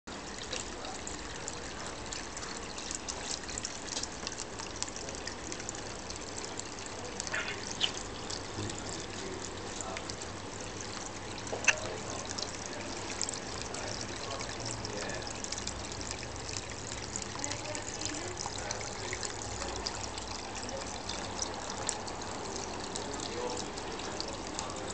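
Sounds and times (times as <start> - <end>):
water trickling into trough: 0.1 - 24.9.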